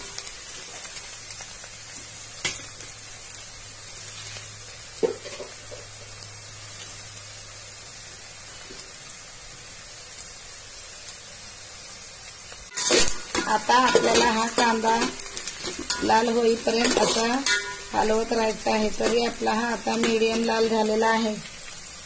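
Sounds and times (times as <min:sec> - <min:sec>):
onion sizzling in hot oil: 0:00.0 - 0:22.0.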